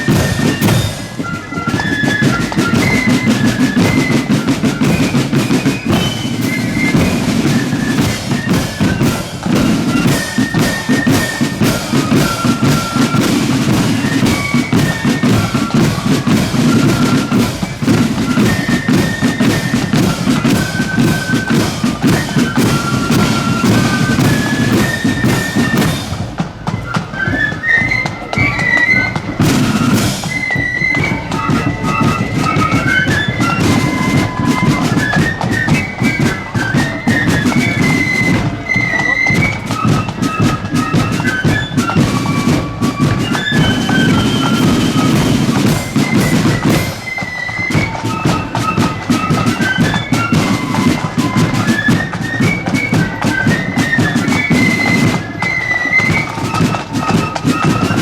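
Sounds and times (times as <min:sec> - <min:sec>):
flutes playing melody: 0:00.0 - 0:58.0
snare drums: 0:00.0 - 0:58.0.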